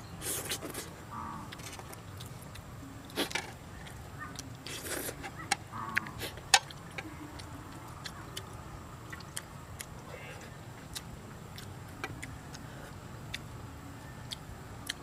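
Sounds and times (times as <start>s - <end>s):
person chewing food wetly: 0.2s - 13.6s, 14.2s - 15.0s.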